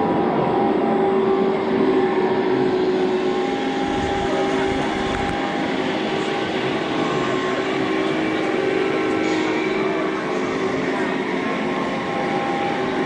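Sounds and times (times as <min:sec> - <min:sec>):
indoor crowd noise: 0:00.0 - 0:13.0
mechanical drone with whine: 0:00.0 - 0:13.0.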